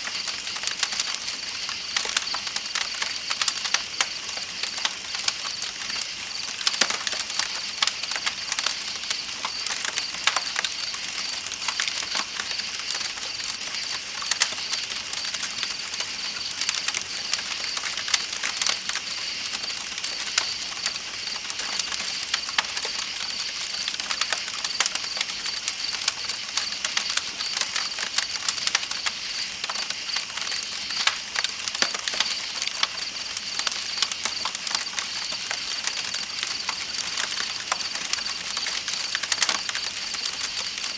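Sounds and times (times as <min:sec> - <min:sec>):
campfire crackling and popping: 0:00.0 - 0:40.9
night insects chirping: 0:00.1 - 0:40.9.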